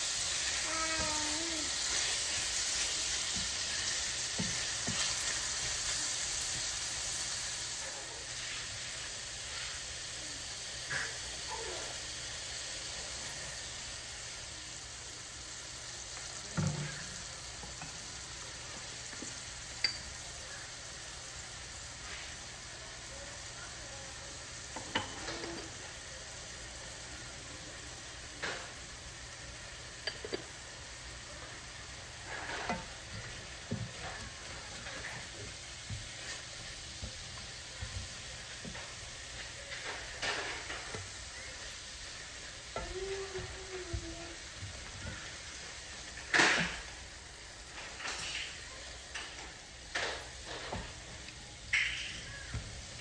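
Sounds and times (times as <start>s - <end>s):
chicken sizzling in a skillet: 0.0s - 53.0s.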